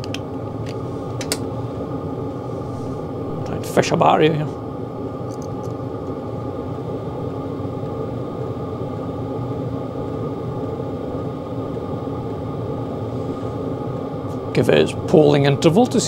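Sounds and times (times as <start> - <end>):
air heater fan whirring: 0.0 - 16.0
faint hum: 0.0 - 16.0.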